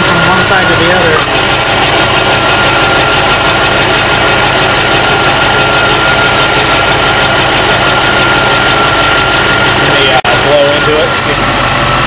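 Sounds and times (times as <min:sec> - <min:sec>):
engine idling: 0:00.0 - 0:12.0
high supercharger whine: 0:00.0 - 0:12.0.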